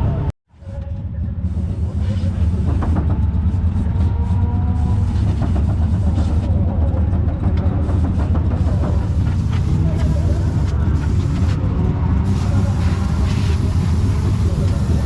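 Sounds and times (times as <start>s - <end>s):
race car engines running: 0.0s - 15.0s.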